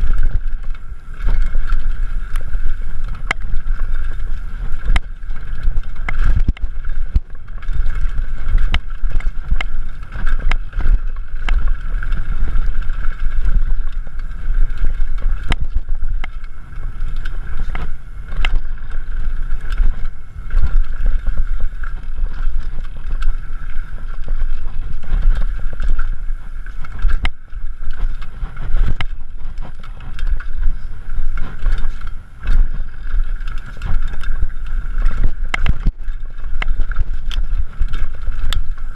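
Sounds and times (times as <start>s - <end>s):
bike rattles and knocks: 0.0s - 38.9s
bike tyre noise: 0.0s - 38.9s
wind buffeting microphone: 0.0s - 38.9s.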